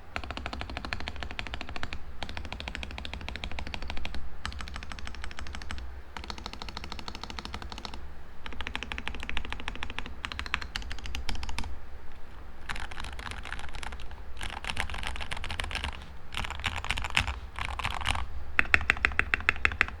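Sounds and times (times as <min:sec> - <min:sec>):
rapid mechanical keyboard keystrokes: 0:00.2 - 0:20.0.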